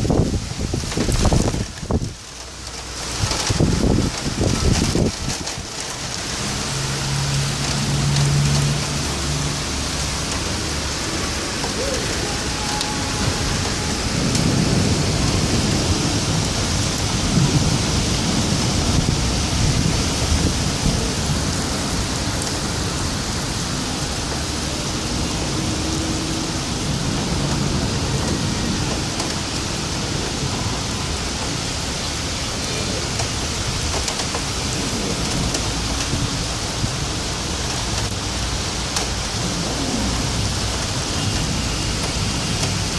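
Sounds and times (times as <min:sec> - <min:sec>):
heavy rain falling: 0:00.0 - 0:42.9
low thunder rumbling: 0:00.0 - 0:42.9.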